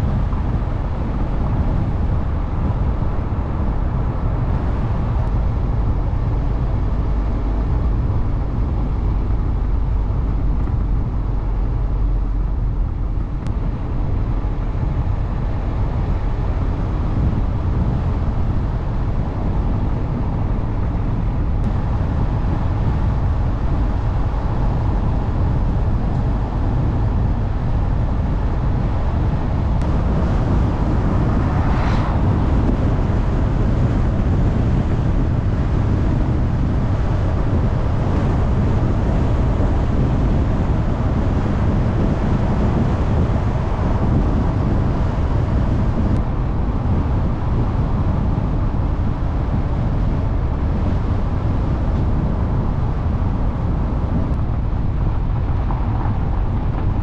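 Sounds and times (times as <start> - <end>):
car engine and tyre rumble: 0.0 - 57.0
wind hiss: 0.0 - 57.0.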